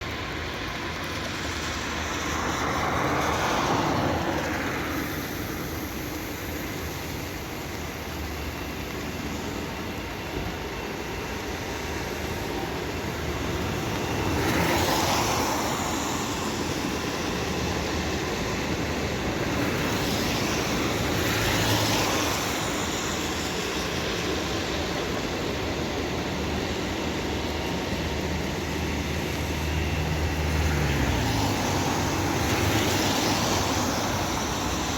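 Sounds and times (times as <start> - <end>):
vehicle noise: 0.0 - 34.9.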